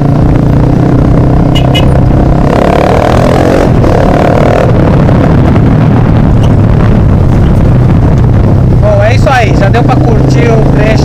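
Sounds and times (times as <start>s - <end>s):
motorcycle engine running loud: 0.0s - 11.0s.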